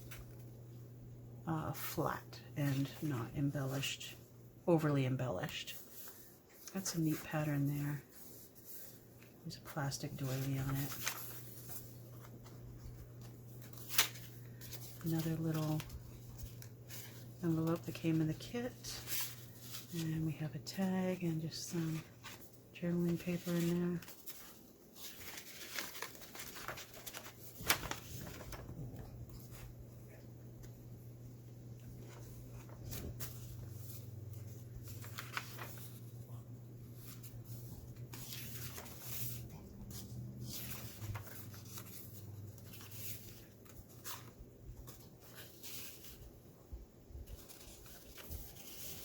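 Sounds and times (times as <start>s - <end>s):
paper rustling: 0.0s - 0.7s, 2.6s - 4.2s, 5.4s - 31.0s, 31.6s - 49.0s
faint low hum: 0.0s - 49.0s.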